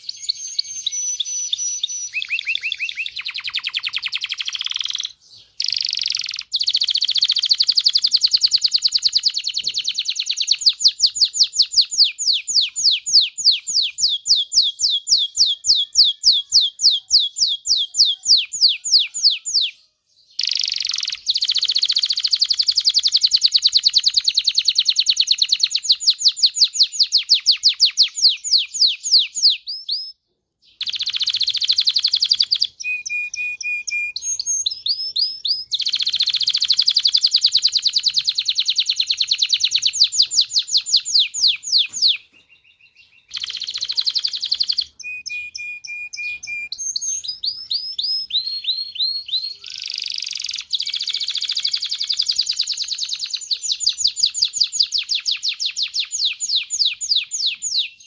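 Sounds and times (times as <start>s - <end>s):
canary singing trills and whistles: 0.0s - 58.0s.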